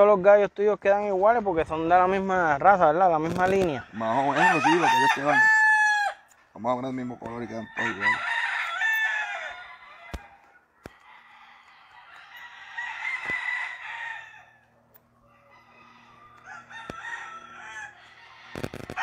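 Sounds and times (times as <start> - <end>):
roosters crowing: 2.9 - 19.0.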